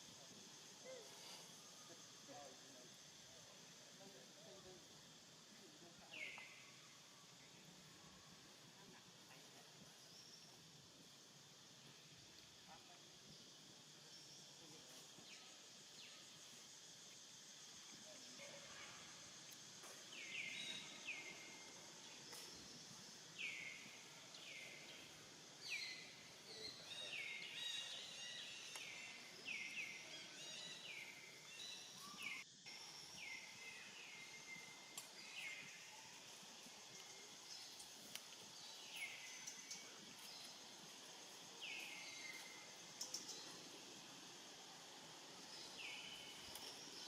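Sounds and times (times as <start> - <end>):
steady high hiss: 0.0 - 47.0.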